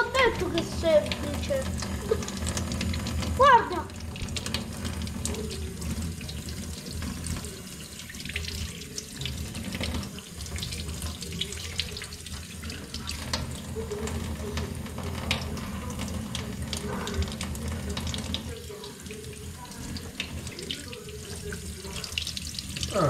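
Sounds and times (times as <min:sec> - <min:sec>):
tap running into metal sink: 0:04.0 - 0:22.9.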